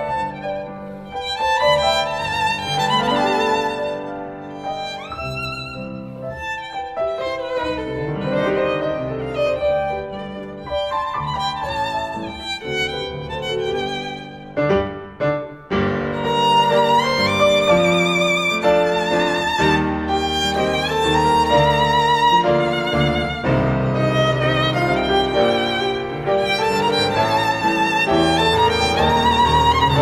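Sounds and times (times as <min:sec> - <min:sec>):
piano accompaniment: 0:00.0 - 0:30.0
violin melody: 0:00.0 - 0:30.0.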